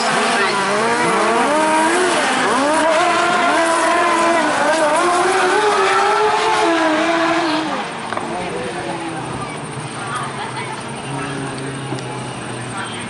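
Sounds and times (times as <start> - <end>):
racing engines revving: 0.0 - 13.0.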